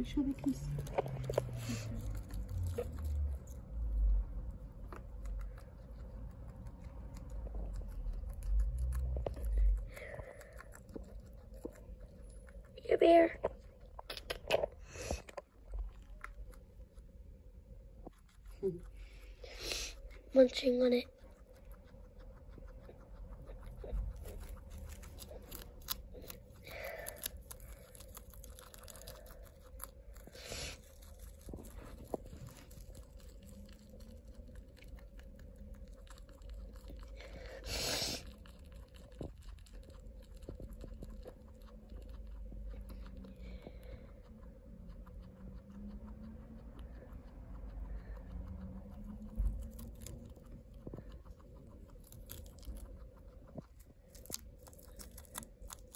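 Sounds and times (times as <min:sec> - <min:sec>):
guinea pig chewing leaf: 0:00.0 - 0:55.9.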